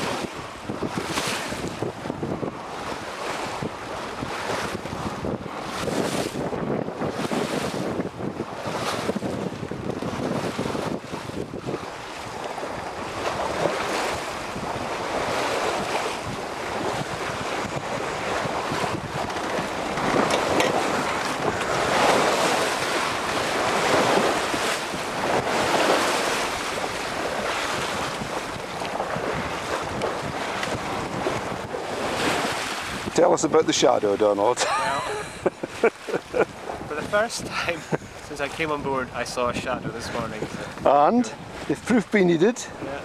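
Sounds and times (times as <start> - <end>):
water rushing along hull: 0.0 - 43.0
wind buffeting microphone: 0.0 - 43.0.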